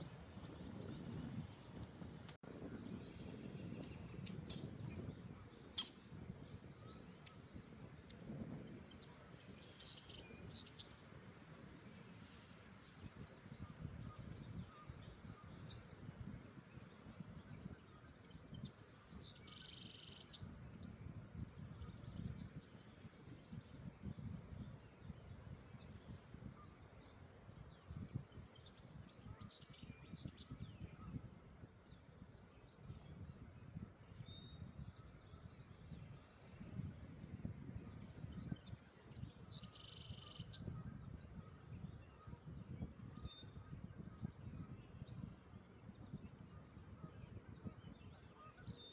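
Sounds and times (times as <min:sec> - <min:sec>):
low wind rumble: 0:00.0 - 0:28.6, 0:29.2 - 0:48.8
songbirds singing: 0:00.0 - 0:48.9.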